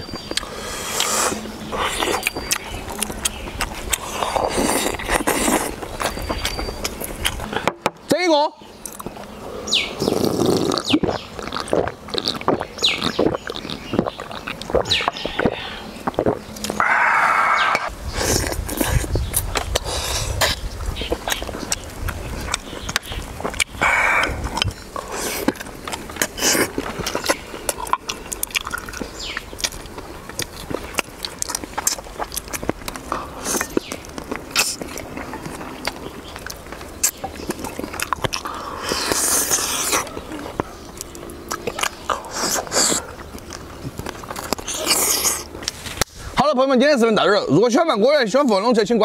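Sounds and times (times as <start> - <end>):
man chewing bones: 0.0 - 8.1, 8.7 - 46.3.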